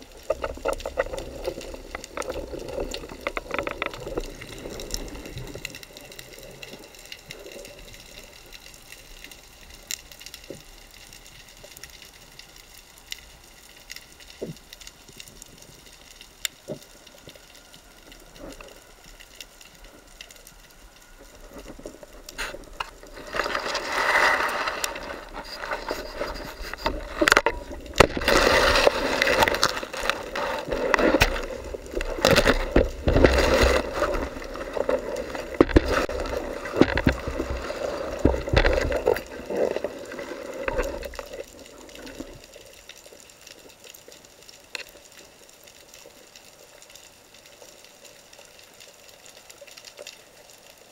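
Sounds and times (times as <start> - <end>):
underwater rustling and scraping: 0.0 - 50.9.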